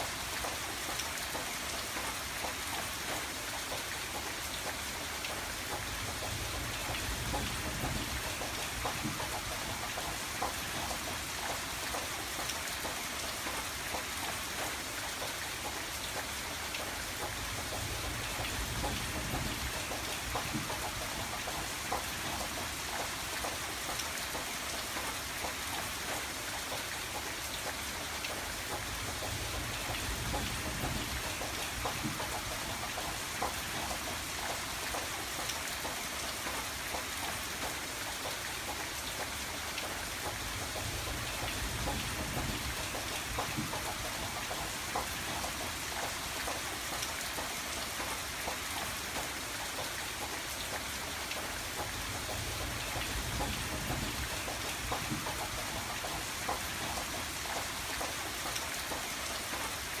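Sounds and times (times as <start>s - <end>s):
rain pattering on a window: 0.0s - 60.0s.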